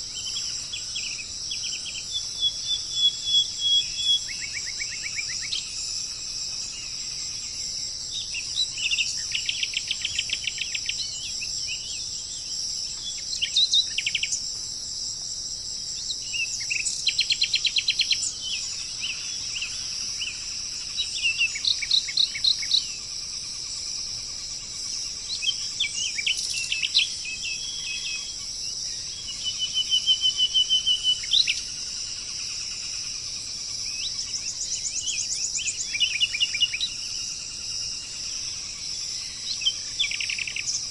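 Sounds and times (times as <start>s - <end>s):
high-pitched insect drone: 0.0s - 40.9s
songbirds chirping: 0.0s - 40.9s.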